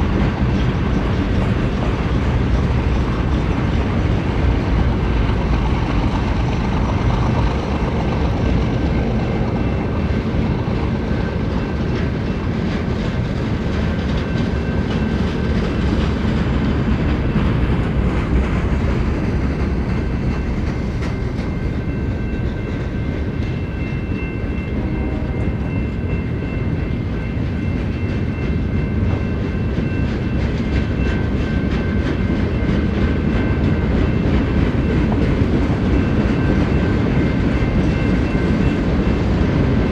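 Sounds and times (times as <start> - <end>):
freight train cars rolling past: 0.0 - 39.9
steel wheels on rails: 0.0 - 39.9.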